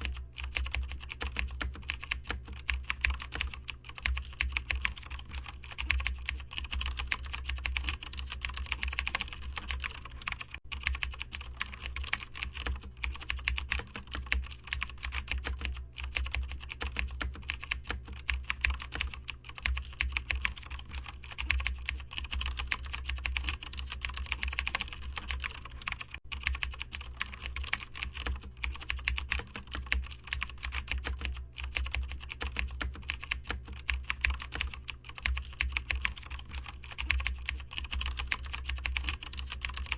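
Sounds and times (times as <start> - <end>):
steady low hum: 0.0 - 39.9
typing on keyboard: 0.0 - 39.9.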